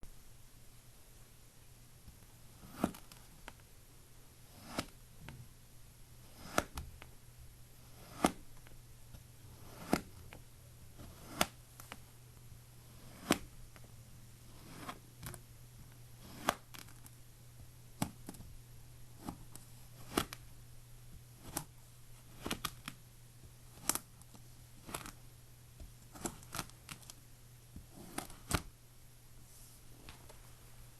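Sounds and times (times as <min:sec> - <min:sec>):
faint low hum: 0:00.0 - 0:30.9.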